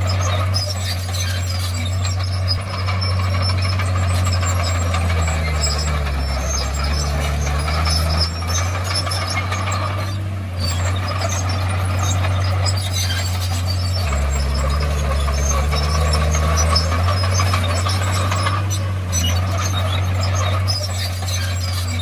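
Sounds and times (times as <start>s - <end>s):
bulldozer diesel engine running: 0.0s - 22.0s
mechanical clatter: 0.0s - 22.0s.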